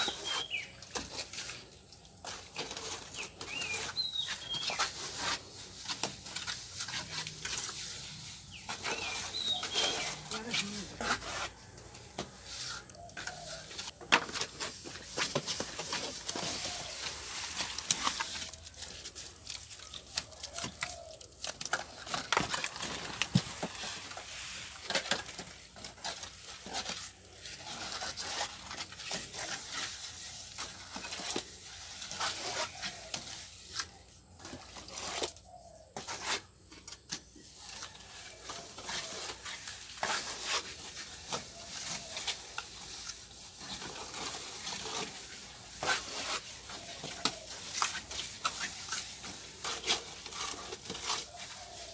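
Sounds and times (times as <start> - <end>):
trowel scraping mortar: 0.0 - 51.9.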